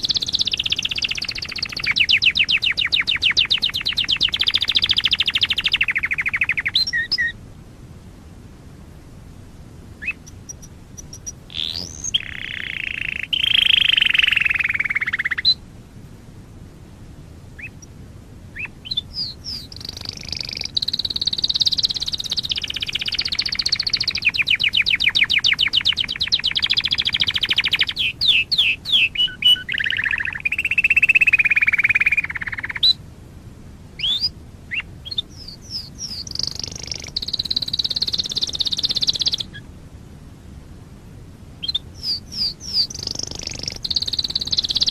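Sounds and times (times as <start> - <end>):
canary singing whistles and trills: 0.0 - 7.4, 10.0 - 15.6, 17.6 - 33.0, 34.0 - 39.7, 41.6 - 44.9.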